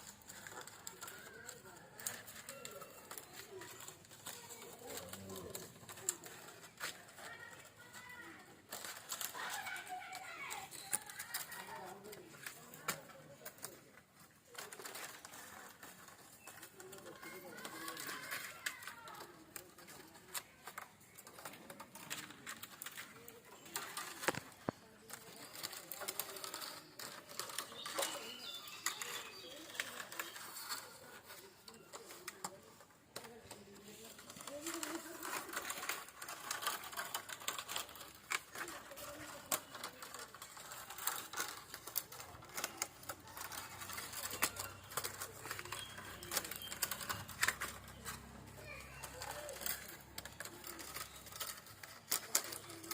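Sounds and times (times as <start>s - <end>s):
bamboo strips clicking: 0.0s - 52.9s.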